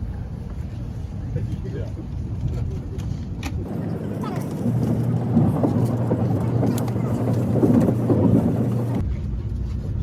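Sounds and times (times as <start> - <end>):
moving vehicle hum and rumble: 0.0 - 10.0.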